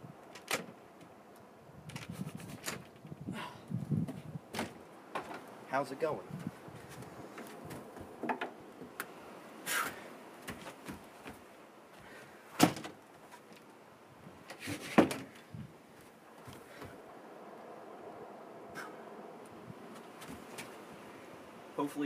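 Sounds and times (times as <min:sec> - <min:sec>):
person moving on wooden deck: 0:00.2 - 0:05.6, 0:06.2 - 0:17.2, 0:19.5 - 0:21.3.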